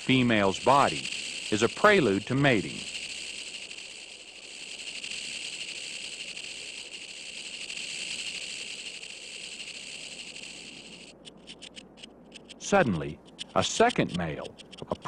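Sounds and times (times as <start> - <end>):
rattlesnake rattle buzzing: 0.0 - 15.0.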